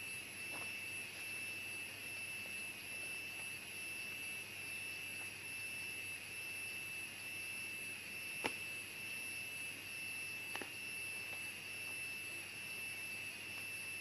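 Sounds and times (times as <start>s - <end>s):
jungle insects droning: 0.0s - 14.0s.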